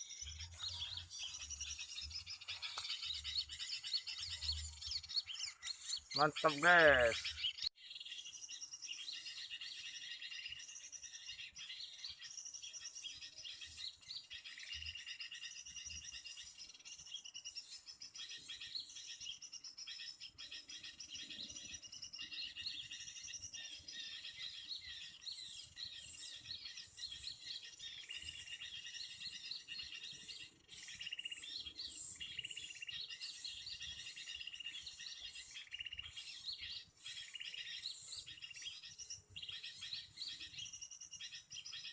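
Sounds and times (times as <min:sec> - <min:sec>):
small songbirds chirping: 0:00.0 - 0:41.9.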